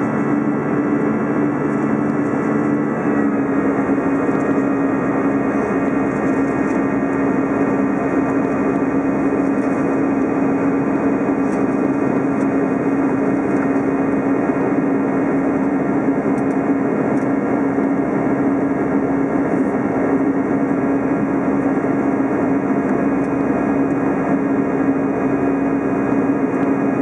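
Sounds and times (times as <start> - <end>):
aircraft engine and airflow noise: 0.0 - 27.0
steady low hum: 0.0 - 27.0.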